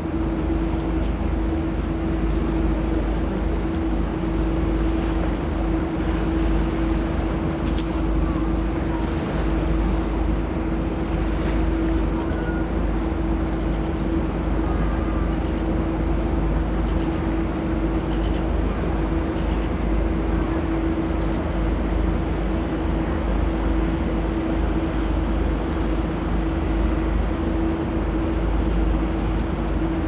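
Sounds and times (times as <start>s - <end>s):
boat engine droning: 0.0s - 30.0s
wind: 0.0s - 30.0s.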